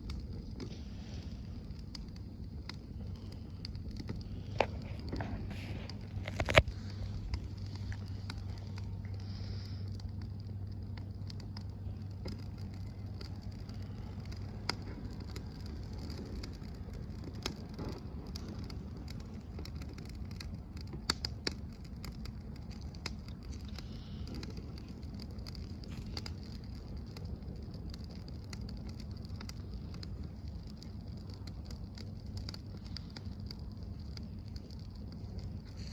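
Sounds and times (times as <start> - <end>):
campfire crackling: 0.0 - 35.9
low background rumble: 0.0 - 35.9
sharp fire pops: 0.0 - 35.9.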